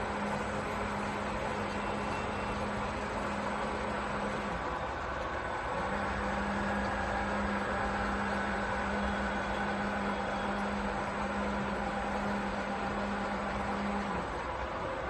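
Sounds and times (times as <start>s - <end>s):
milling machine hum and whir: 0.0s - 15.0s.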